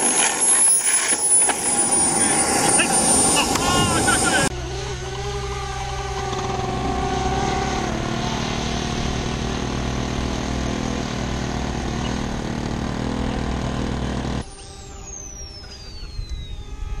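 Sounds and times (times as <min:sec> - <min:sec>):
model plane motors and propellers: 0:00.0 - 0:17.0.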